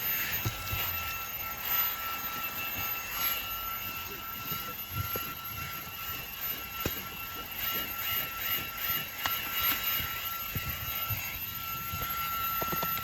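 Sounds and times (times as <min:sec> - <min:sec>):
handheld vacuum cleaner running: 0:00.0 - 0:13.0.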